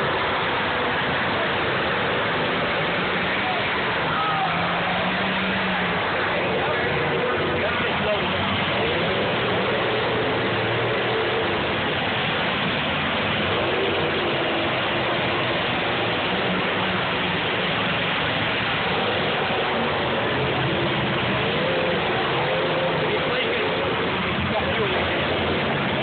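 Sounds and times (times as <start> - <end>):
din of car engines running: 0.0 - 26.0.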